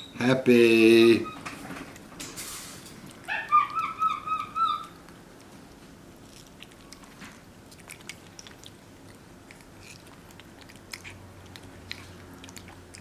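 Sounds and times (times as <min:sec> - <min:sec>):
monkey chewing and smacking: 0:01.2 - 0:13.0.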